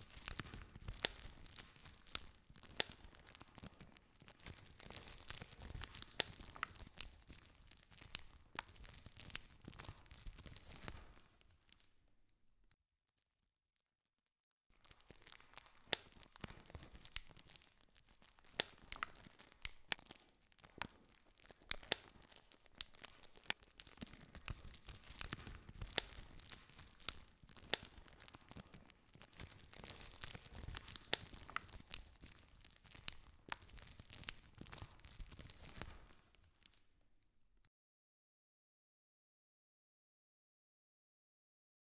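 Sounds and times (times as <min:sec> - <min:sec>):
campfire crackling and popping: 0:00.0 - 0:11.8, 0:14.8 - 0:36.9.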